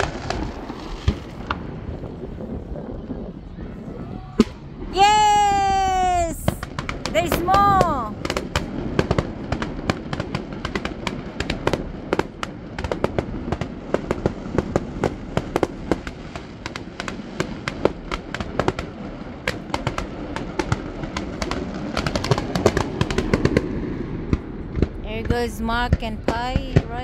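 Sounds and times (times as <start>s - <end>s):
fireworks cracks and bangs: 0.0s - 27.0s.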